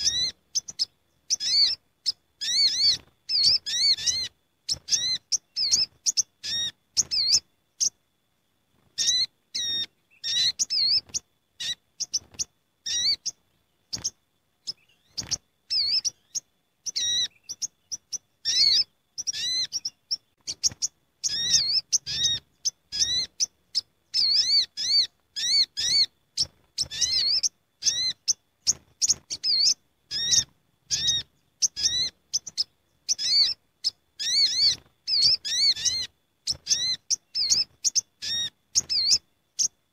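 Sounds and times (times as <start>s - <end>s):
birds chirping noisily: 0.0s - 8.0s, 8.8s - 39.9s.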